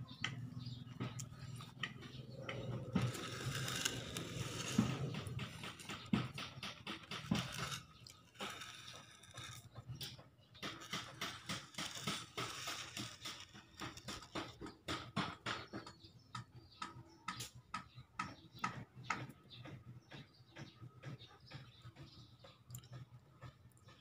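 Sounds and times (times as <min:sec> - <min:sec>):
rapid small clicks and taps: 0:00.1 - 0:24.0.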